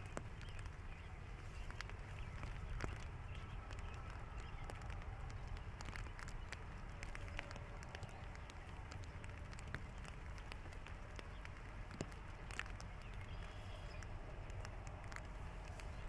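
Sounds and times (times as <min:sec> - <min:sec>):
low steady rumble: 0:00.0 - 0:16.0
raindrops tapping on plastic poncho: 0:00.0 - 0:16.0.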